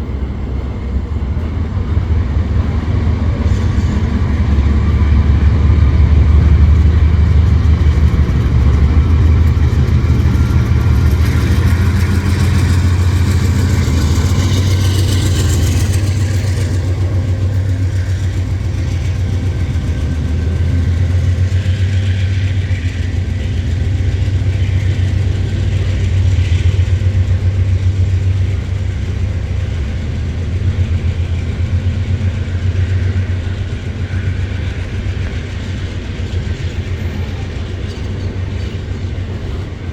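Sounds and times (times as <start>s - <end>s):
diesel locomotive engine drone: 0.0s - 39.9s
freight train wagons rolling: 0.0s - 39.9s.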